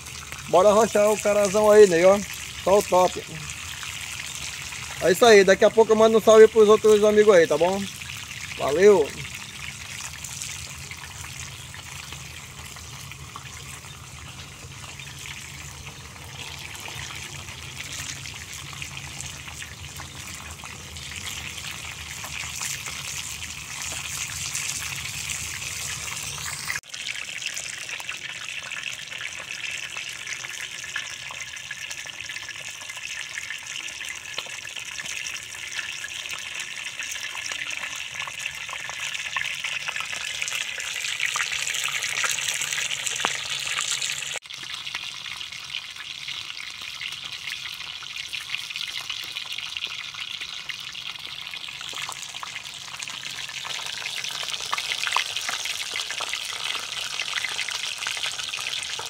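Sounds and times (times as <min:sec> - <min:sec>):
fish sizzling in oil: 0:00.0 - 0:59.0.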